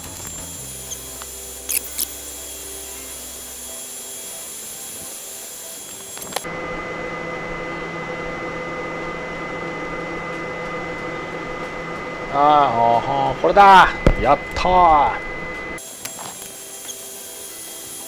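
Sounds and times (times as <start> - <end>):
low hum with whine: 0.0 - 5.2, 5.8 - 16.6.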